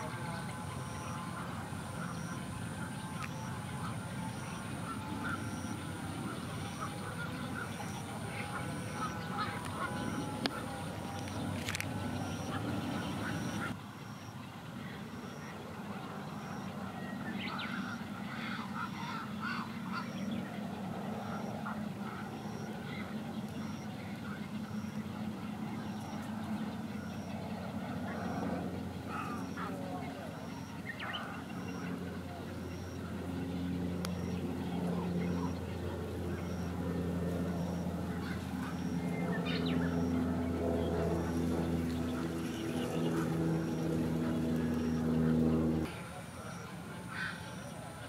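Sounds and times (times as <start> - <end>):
herons squawking: 0.0 - 13.8, 17.4 - 20.4, 21.2 - 47.9
steady low hum: 0.0 - 48.0.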